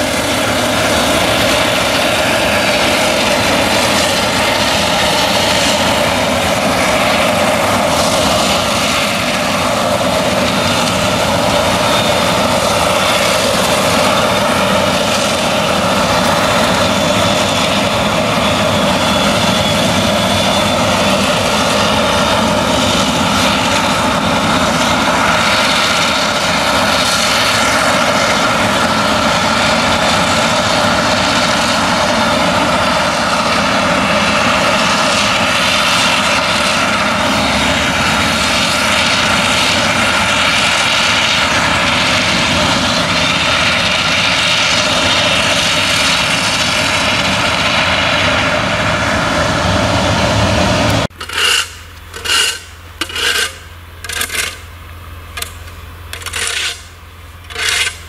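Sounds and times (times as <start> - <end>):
forage harvester engine whining: 0.0 - 58.0
tractor running: 0.0 - 58.0.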